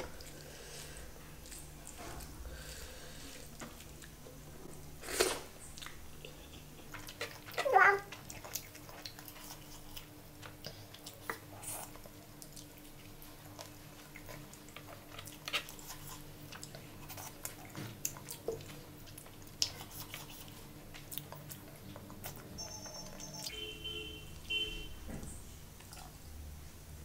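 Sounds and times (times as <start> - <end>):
wet chewing: 0.0 - 4.2, 5.0 - 23.6
faint steady hum: 0.0 - 27.0.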